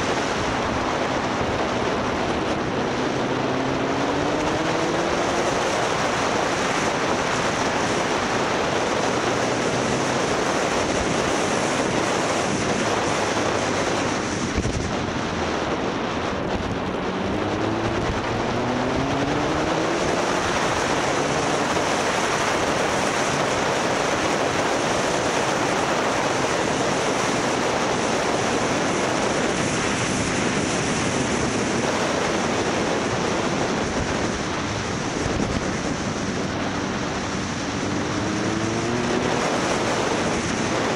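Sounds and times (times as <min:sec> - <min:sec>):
motorcycle engine accelerating: 0:00.0 - 0:40.9
wind rushing over microphone: 0:00.0 - 0:40.9.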